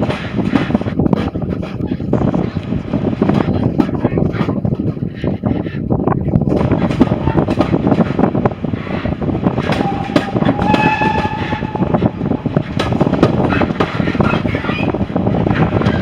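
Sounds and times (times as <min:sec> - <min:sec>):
train wheels clattering on rails: 0:00.0 - 0:05.6, 0:06.3 - 0:16.0.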